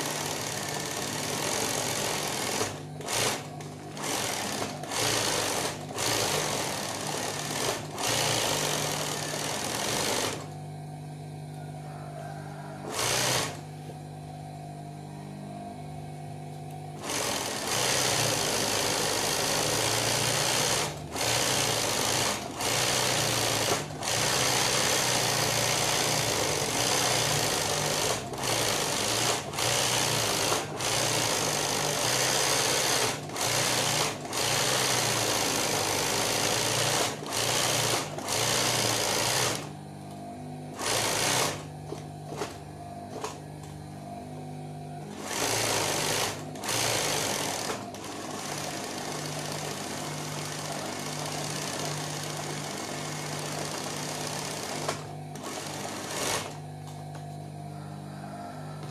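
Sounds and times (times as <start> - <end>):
sewing machine stitching: 0.0 - 10.5, 12.8 - 13.6, 17.0 - 39.7, 40.8 - 43.4, 45.1 - 56.6.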